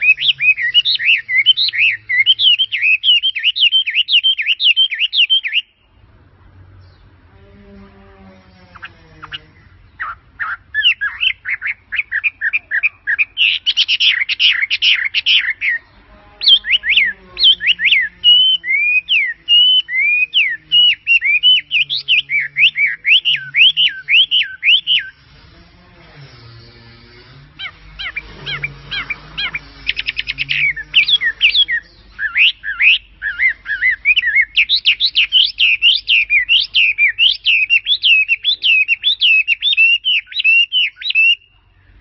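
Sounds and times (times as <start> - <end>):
bird chirping and calling: 0.0 - 42.0.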